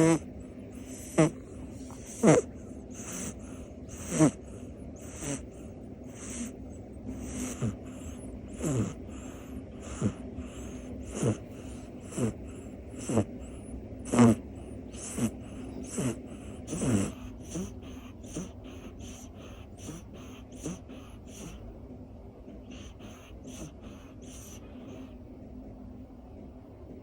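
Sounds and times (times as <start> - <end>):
cat snoring: 0.0 - 21.7, 22.6 - 25.2.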